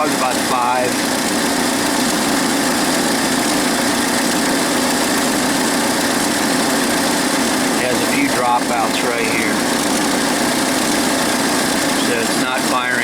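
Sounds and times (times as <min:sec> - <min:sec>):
engine idling with misfire: 0:00.0 - 0:13.0.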